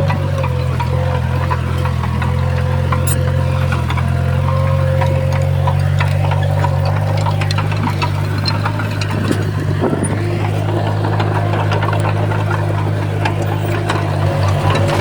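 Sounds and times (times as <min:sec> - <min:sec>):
bulldozer diesel engine running: 0:00.0 - 0:15.0
clanks and knocks of tracks and stones: 0:00.0 - 0:15.0.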